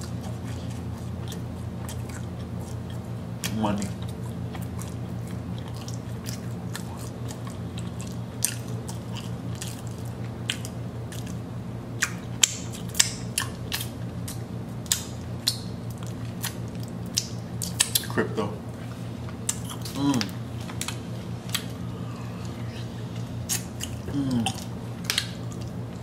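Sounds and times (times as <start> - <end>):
person chewing: 0.0 - 18.2, 18.8 - 26.0
steady low hum: 0.0 - 26.0.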